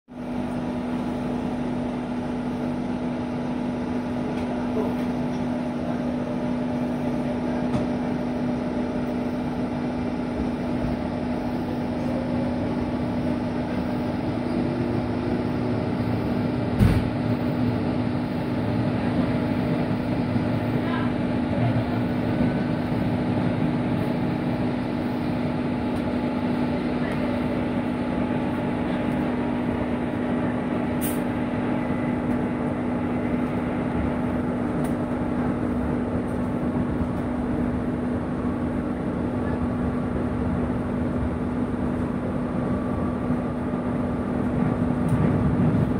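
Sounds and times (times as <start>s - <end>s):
train wheels rumbling on rails: 0.2s - 45.9s.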